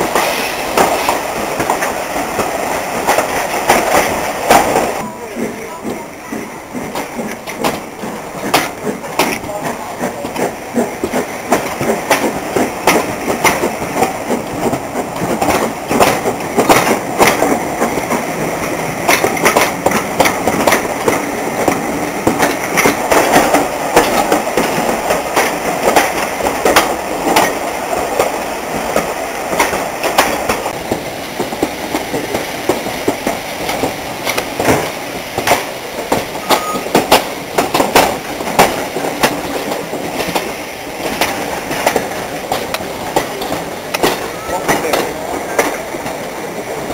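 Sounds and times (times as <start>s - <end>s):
train wheels clicking on track: 0.0s - 46.9s.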